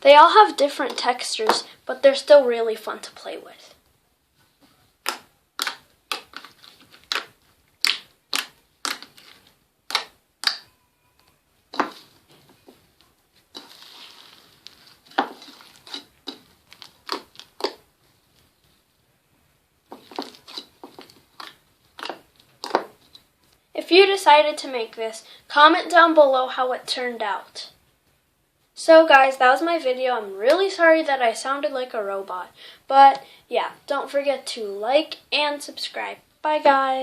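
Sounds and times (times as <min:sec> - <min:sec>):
soft crackly hiss: 0:00.0 - 0:10.6, 0:11.2 - 0:37.0.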